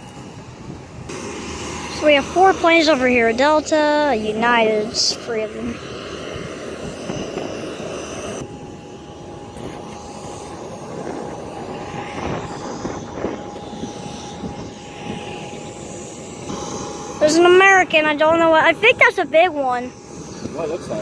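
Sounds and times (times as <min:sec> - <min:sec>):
jet engines running: 0:00.0 - 0:21.0
thin steady tone: 0:01.1 - 0:21.0.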